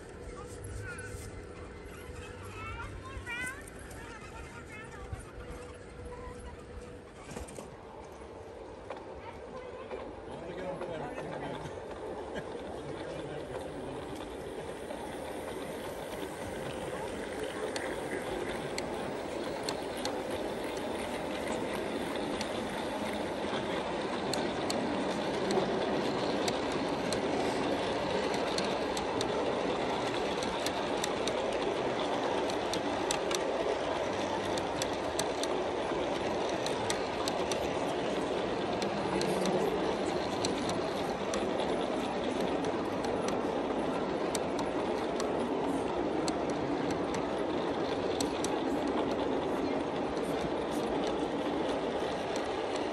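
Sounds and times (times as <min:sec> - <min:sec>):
model train wheels rumbling: 0:00.0 - 0:52.9
wheels clicking over rail joints: 0:00.0 - 0:52.9.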